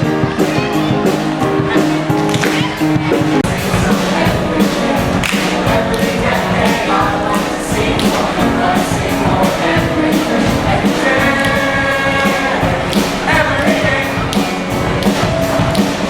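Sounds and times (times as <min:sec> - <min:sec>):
music with drum beat and singing: 0:00.0 - 0:16.0.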